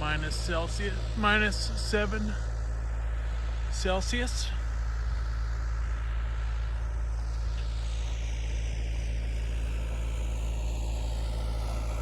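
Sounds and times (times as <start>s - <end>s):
diesel engine running: 0.0s - 12.0s
faint whine: 0.0s - 12.0s.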